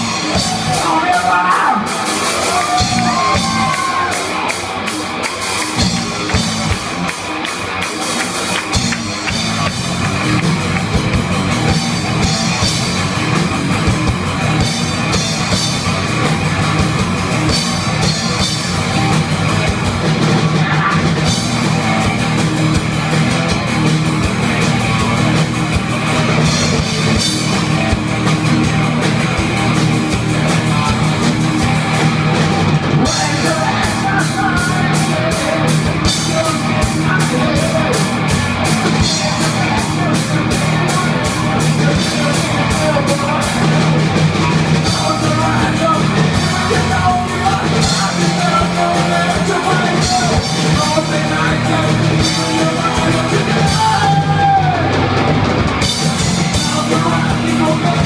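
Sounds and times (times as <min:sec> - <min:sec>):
fast cymbal and drum beat: 0:00.0 - 0:58.0
metal band playing: 0:00.0 - 0:58.0.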